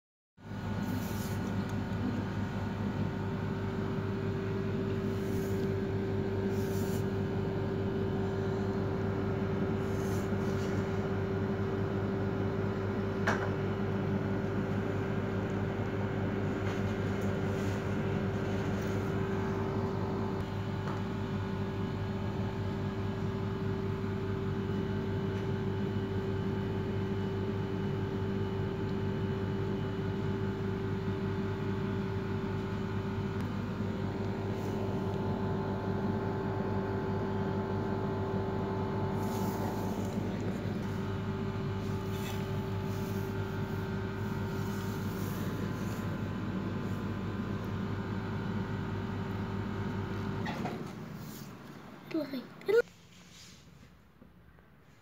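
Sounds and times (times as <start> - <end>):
steady mechanical hum: 0.4 - 55.0.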